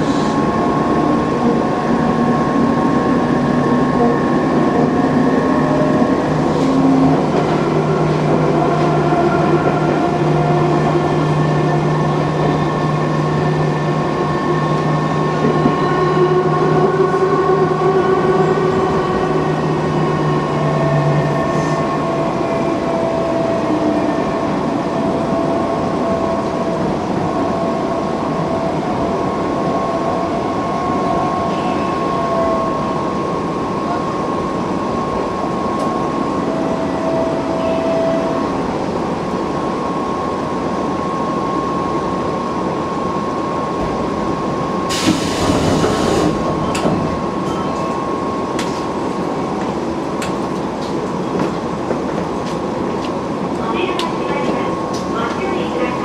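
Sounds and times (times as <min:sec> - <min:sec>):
train rolling on rails: 0:00.0 - 0:56.0.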